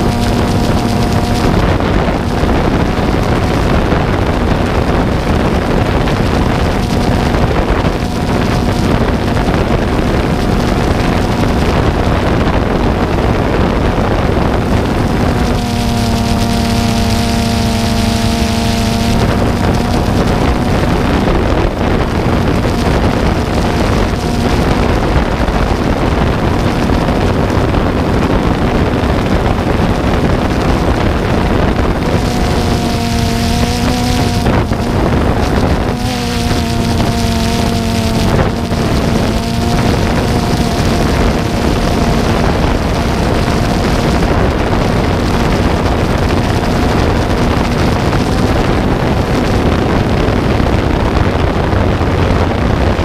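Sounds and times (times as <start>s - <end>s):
aircraft motor humming: 0.0s - 53.0s
wind rushing over microphone: 0.0s - 53.0s.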